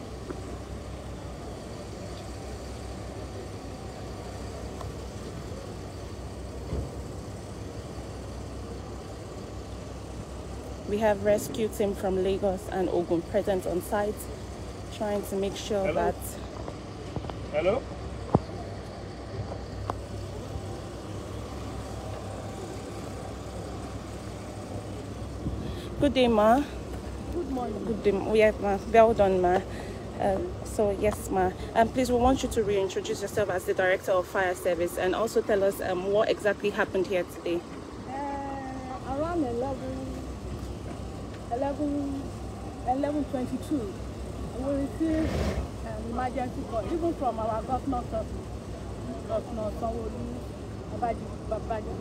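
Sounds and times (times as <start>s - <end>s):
low engine rumble: 0.0s - 52.0s.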